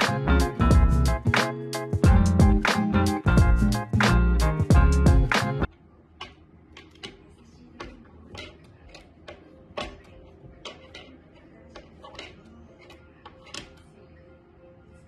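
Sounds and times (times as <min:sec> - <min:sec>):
music: 0:00.0 - 0:05.7, 0:08.4 - 0:15.0.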